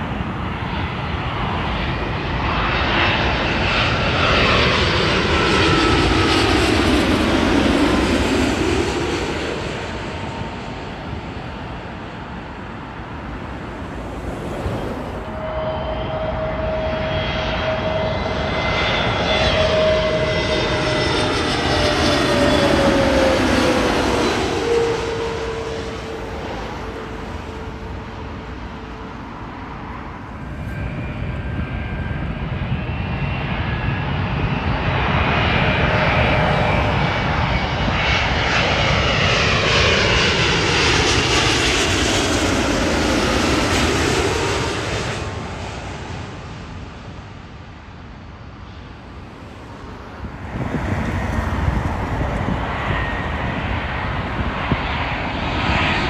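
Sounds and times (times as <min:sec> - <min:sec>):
jet engines passing overhead: 0:00.0 - 0:56.0.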